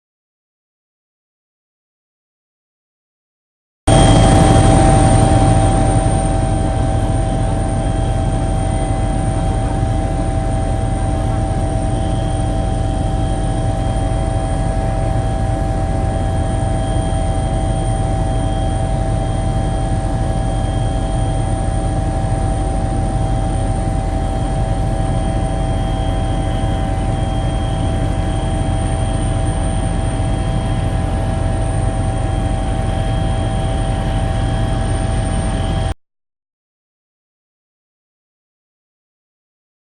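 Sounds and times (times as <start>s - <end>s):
engine drone with whine: 3.9s - 36.0s.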